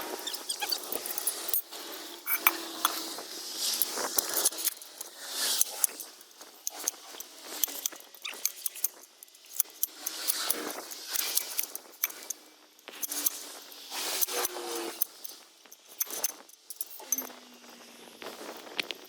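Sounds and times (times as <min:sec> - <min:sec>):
metal tools clinking: 0:00.1 - 0:17.8.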